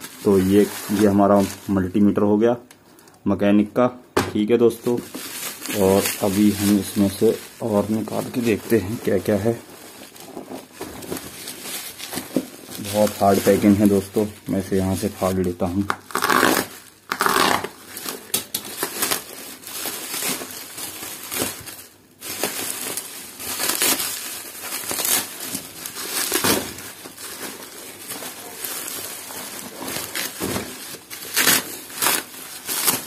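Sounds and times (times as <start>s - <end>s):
plastic crinkling and rustling: 0.0s - 2.3s, 4.4s - 33.0s.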